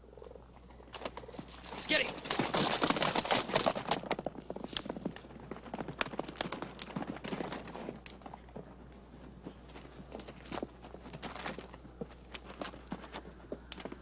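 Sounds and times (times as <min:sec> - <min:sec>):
horse hooves clip-clopping: 0:00.1 - 0:14.0.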